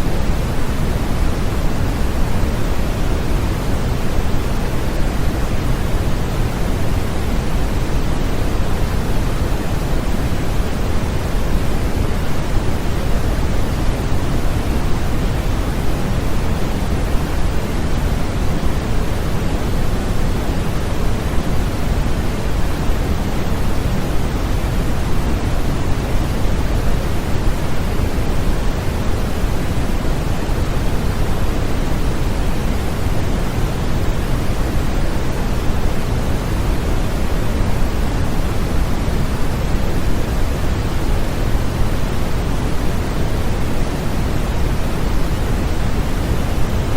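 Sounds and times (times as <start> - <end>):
steady generated noise hiss: 0.0 - 46.9.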